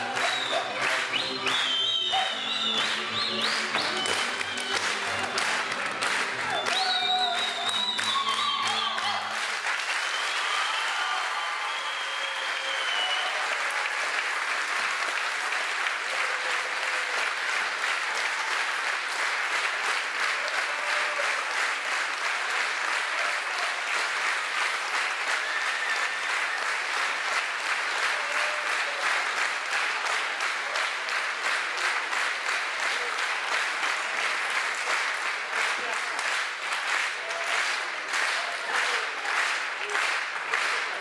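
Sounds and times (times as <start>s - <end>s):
audience applauding: 0.0s - 41.0s.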